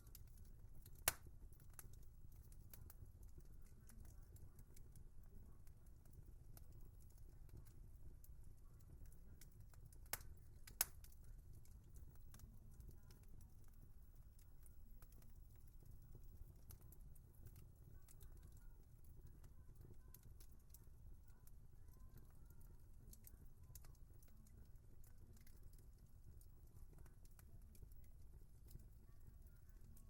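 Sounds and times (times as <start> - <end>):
low rumble of burning logs: 0.0 - 30.0
wood fire crackling: 0.0 - 30.0.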